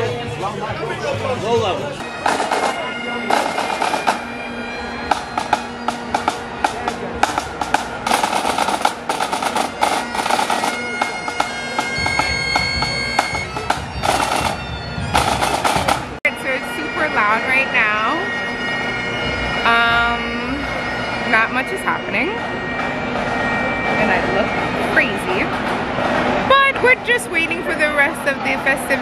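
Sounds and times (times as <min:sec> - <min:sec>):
drums: 0:00.0 - 0:29.0
bagpipes playing: 0:01.6 - 0:29.0.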